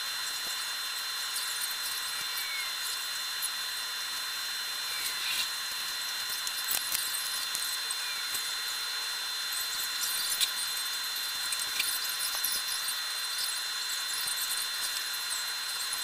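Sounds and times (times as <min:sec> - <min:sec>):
high-pitched whine: 0:00.0 - 0:16.0.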